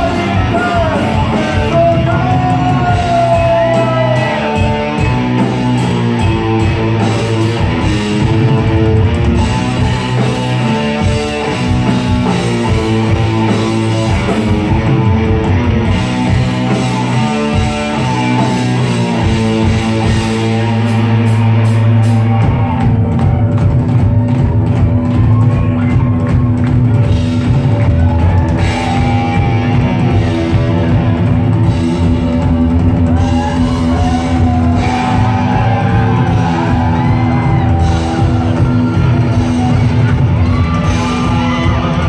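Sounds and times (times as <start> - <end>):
heavy metal band playing: 0.0 - 42.0.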